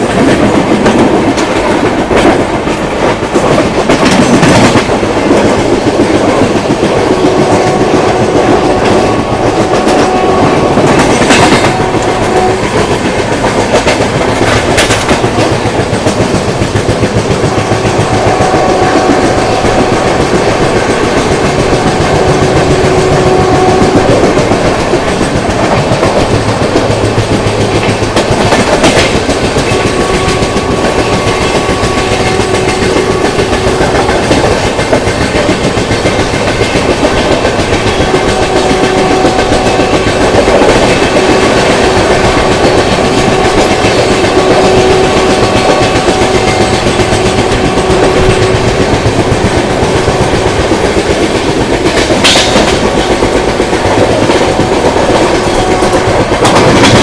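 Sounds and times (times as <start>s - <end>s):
train rushing rumble: 0.0s - 57.0s
wheels clicking over rail joints: 0.0s - 57.0s.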